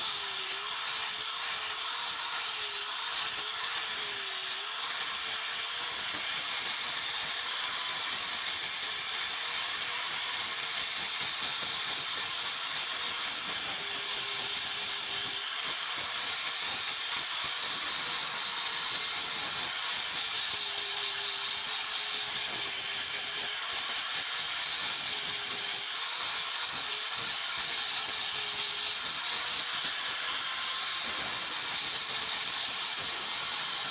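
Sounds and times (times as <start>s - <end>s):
angle grinder sanding wood: 0.0s - 33.9s.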